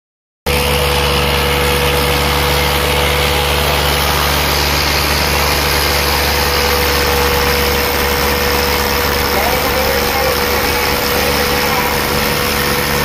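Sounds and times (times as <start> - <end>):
steady high whine: 0.5 - 13.0
tractor diesel engines: 0.5 - 13.0.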